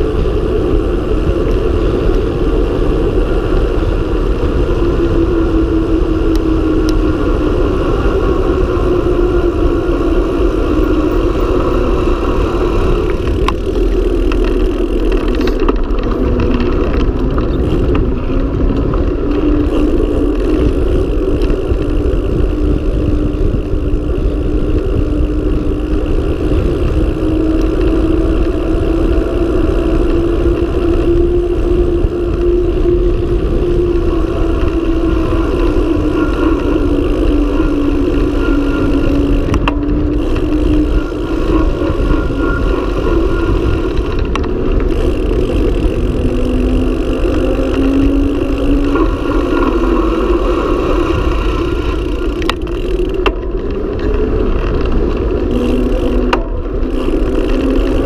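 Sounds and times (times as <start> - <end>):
bike tyres humming on asphalt: 0.0 - 58.0
wind rushing over microphone: 0.0 - 58.0.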